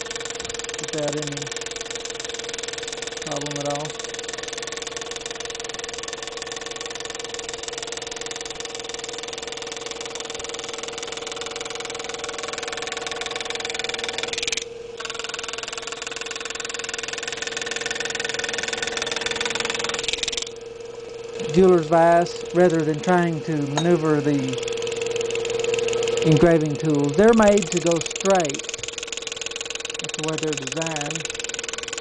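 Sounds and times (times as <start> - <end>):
engraving machine buzzing: 0.0 - 32.0
even hum: 0.0 - 32.0.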